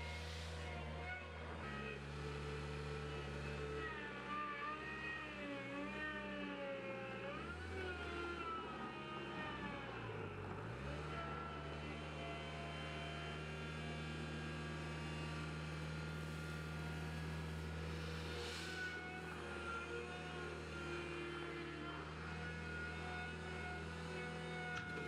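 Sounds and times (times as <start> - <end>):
loader engine whining: 0.0 - 25.0.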